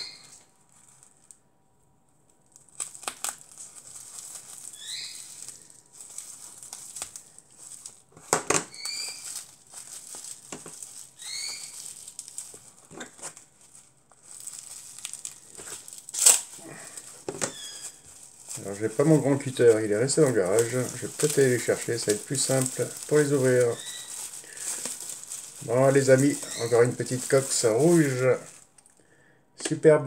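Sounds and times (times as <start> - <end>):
bubble wrap crinkling and crackling: 0.0 - 29.3.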